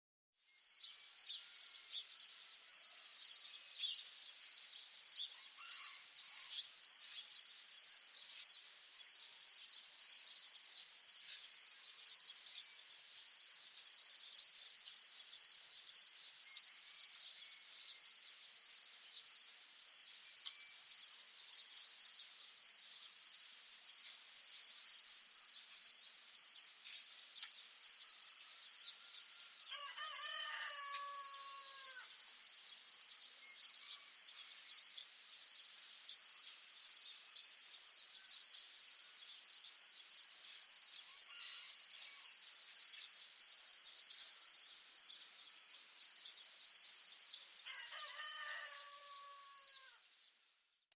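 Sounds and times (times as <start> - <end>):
cricket chirping: 0.6 - 1.4, 2.1 - 29.9, 30.7 - 34.9, 35.5 - 37.7, 38.3 - 48.3.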